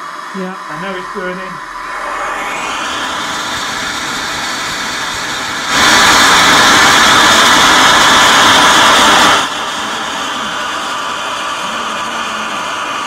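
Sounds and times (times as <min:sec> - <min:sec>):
rushing hiss of gas flow: 0:00.0 - 0:13.0.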